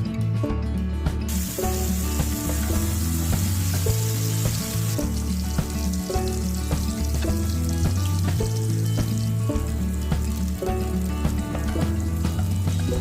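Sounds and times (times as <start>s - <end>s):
background music with bass: 0.0s - 13.0s
food sizzling in a pan: 1.3s - 13.0s.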